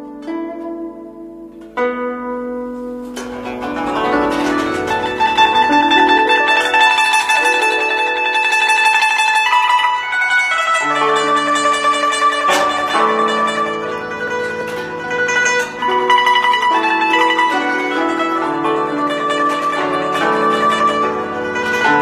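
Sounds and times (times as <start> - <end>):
guzheng plucked notes: 0.0 - 22.0.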